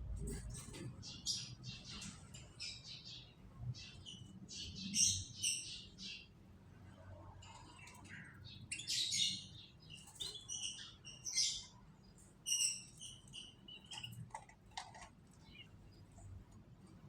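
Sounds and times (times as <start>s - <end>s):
canaries chirping: 0.2s - 6.4s, 7.4s - 16.4s.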